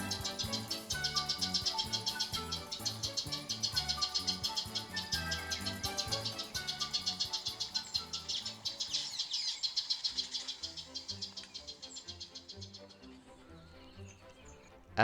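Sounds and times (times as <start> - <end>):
insect chirping in fast pulses: 0.0 - 12.9
faint bird chirps: 0.0 - 15.0
soft background music: 0.0 - 15.0.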